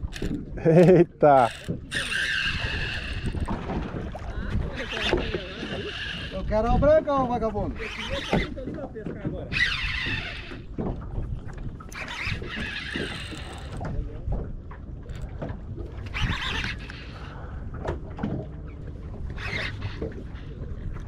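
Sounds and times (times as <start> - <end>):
wind and water rumble: 0.0 - 21.0.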